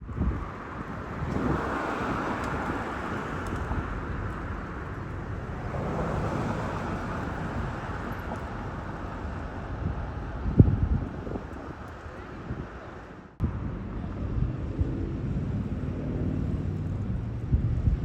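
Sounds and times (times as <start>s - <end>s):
road traffic rumble: 0.0s - 18.0s
wind buffeting microphone: 0.0s - 18.0s.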